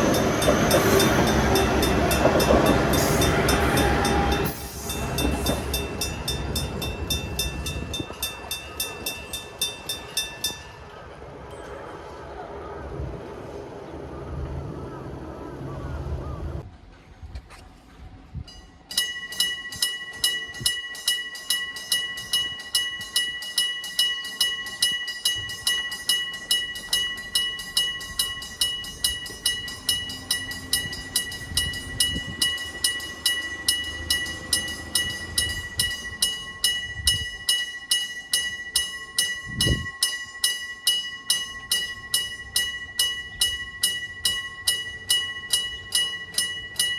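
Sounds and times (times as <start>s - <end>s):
railroad crossing bell ringing: 0.0s - 16.6s, 18.3s - 46.9s.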